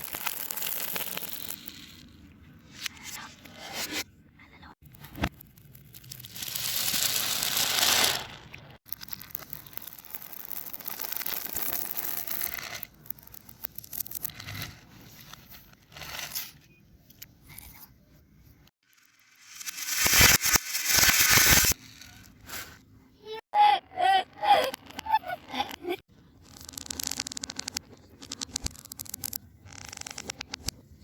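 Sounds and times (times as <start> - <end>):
crackling noise: 0.0 - 3.3, 4.8 - 17.8, 18.8 - 22.8, 24.5 - 31.0
fidget toys crinkling and scraping: 0.0 - 4.0, 4.8 - 23.0, 24.6 - 31.0.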